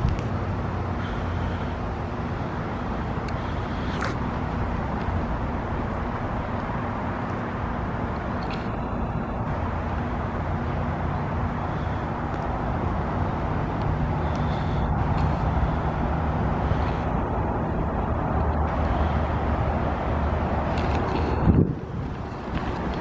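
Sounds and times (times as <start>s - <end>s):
broad rushing noise: 0.0s - 23.0s.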